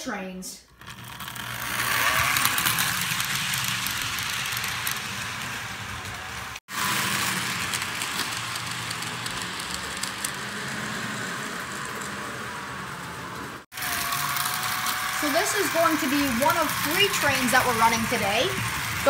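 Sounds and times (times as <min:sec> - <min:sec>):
model train wheels rattling: 0:00.7 - 0:19.0.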